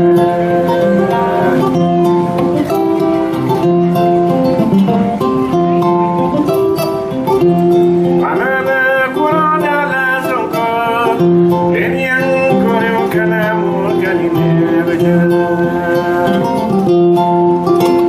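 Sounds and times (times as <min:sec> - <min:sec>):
acoustic guitar song: 0:00.0 - 0:18.0.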